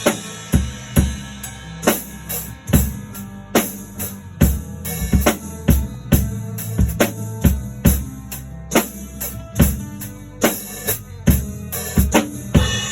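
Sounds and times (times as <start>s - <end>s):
bass line: 0.0s - 12.9s
drum kit beat: 0.0s - 12.9s.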